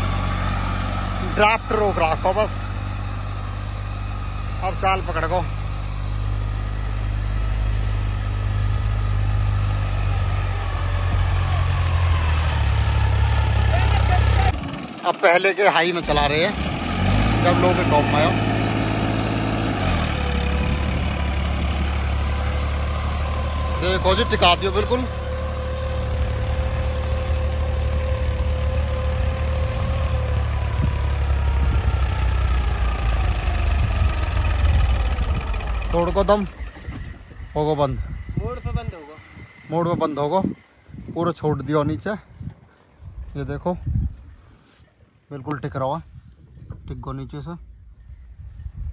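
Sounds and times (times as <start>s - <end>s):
tractor diesel engine running: 0.0s - 44.3s.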